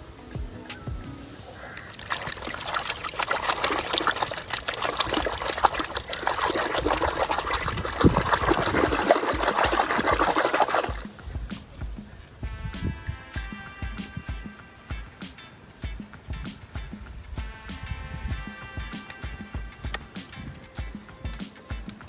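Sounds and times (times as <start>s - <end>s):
water running and splashing: 0.0s - 22.0s.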